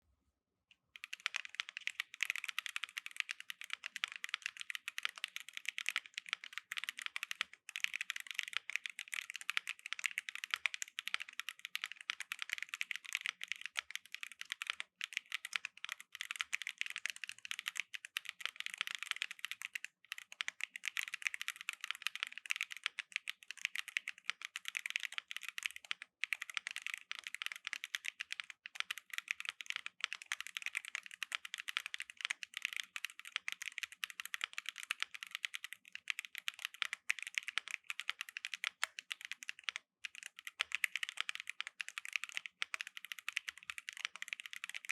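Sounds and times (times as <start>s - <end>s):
typing on mechanical keyboard: 0.9s - 44.9s.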